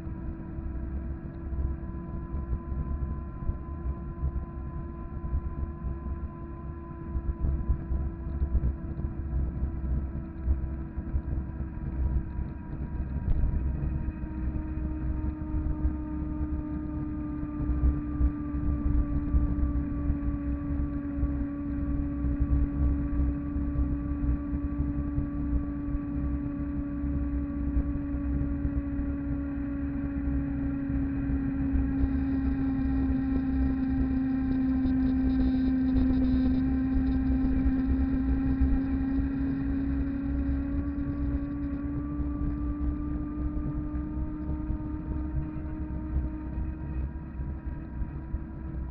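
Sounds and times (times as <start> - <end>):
electric bike drive whine: 0.0 - 48.9
wind rumble on microphone: 0.0 - 48.9.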